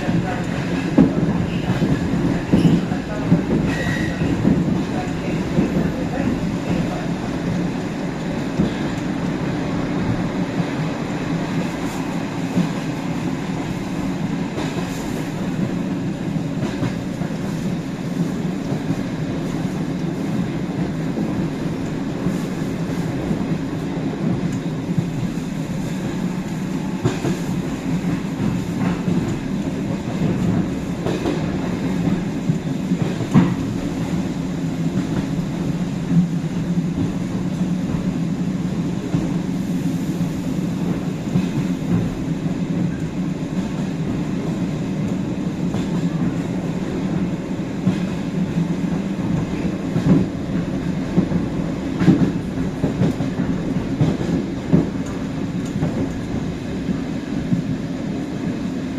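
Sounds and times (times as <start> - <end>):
train rumble inside carriage: 0.0 - 58.9.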